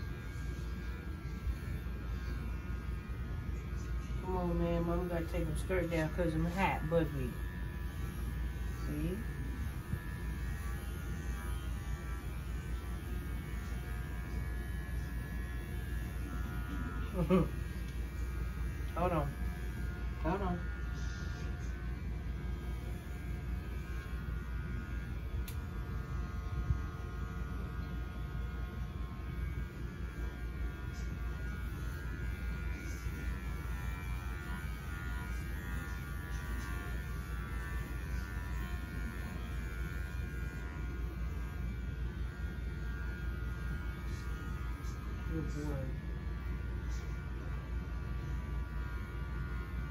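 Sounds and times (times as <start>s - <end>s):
electric hair clippers buzzing: 0.0s - 49.9s.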